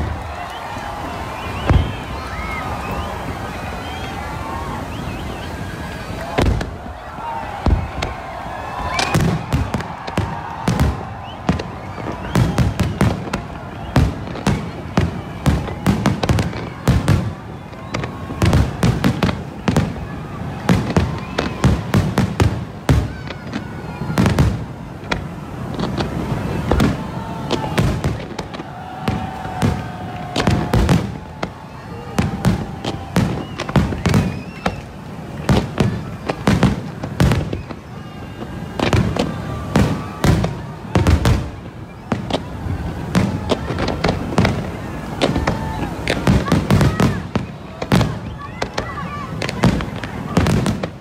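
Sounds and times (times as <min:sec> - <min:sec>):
firework bangs and crackles: 0:00.0 - 0:51.0.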